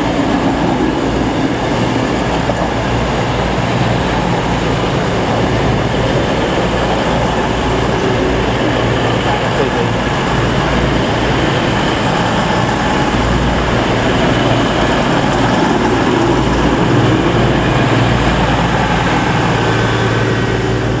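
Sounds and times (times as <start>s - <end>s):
diesel engines humming: 0.0s - 21.0s
train wheels on rail: 0.0s - 21.0s.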